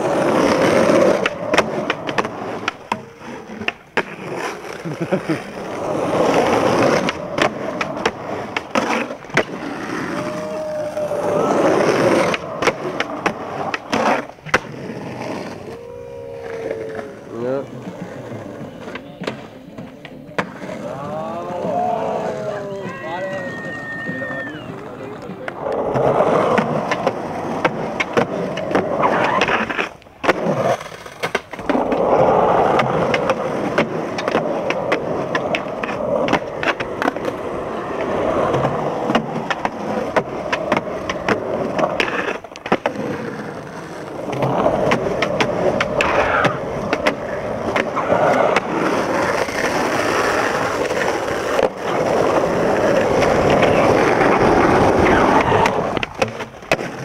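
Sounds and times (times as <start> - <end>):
skateboard clacks and knocks: 0.0 - 57.0
skateboard wheels rolling on concrete: 0.0 - 57.0.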